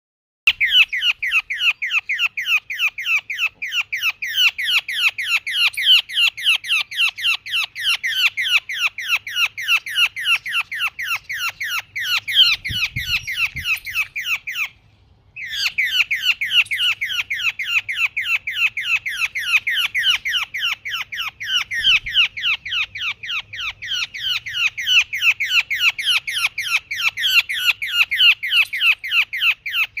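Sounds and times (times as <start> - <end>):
sparrow chirping: 0.5 - 30.0.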